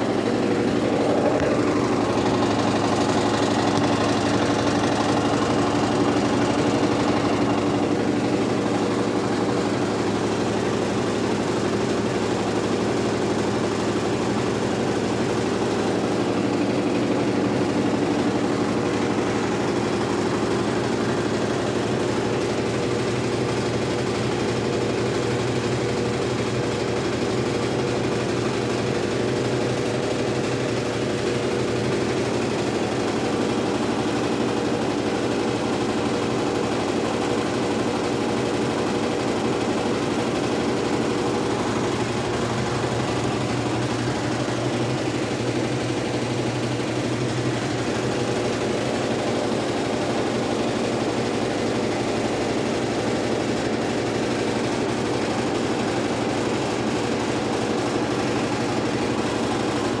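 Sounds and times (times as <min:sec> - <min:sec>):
washing machine motor hum: 0:00.0 - 1:00.0.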